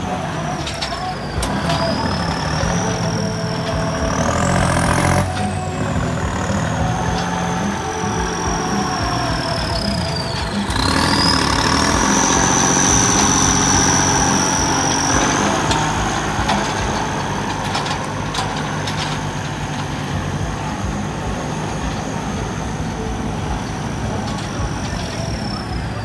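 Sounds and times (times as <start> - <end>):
high steady whistle: 0.0 - 26.0
tractor diesel engine running: 0.0 - 26.0.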